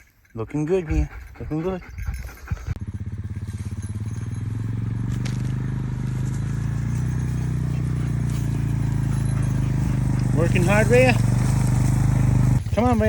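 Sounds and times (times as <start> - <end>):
small engine running: 0.9 - 13.0.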